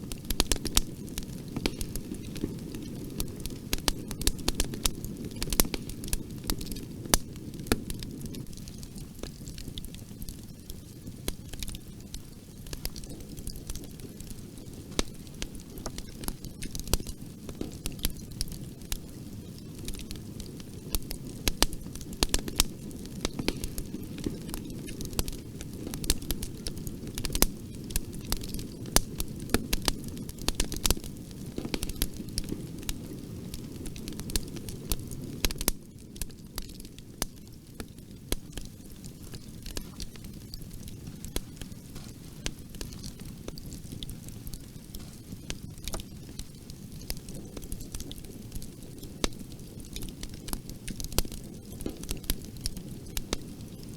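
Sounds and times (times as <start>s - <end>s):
bonfire flames rumbling: 0.0s - 53.9s
burning wood crackling and popping: 0.0s - 53.9s.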